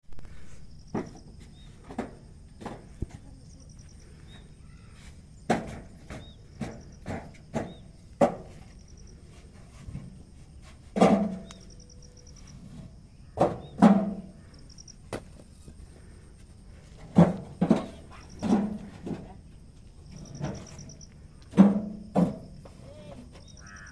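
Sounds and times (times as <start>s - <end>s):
faint crickets chirping: 0.0s - 23.9s.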